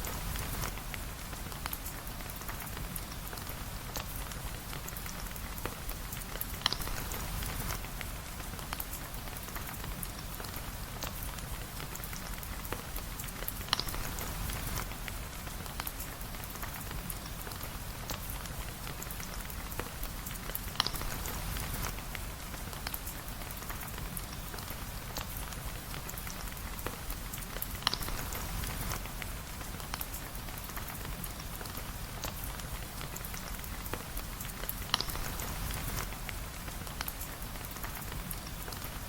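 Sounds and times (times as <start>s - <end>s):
rain pattering: 0.0s - 39.0s.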